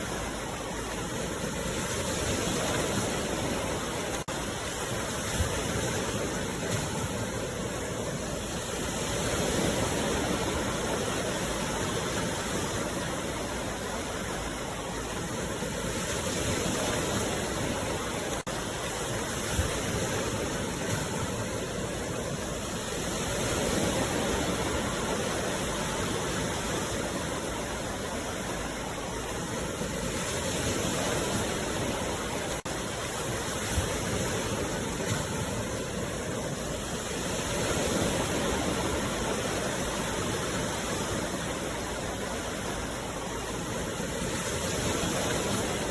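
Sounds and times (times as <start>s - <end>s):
sea waves washing on shore: 0.0s - 45.9s.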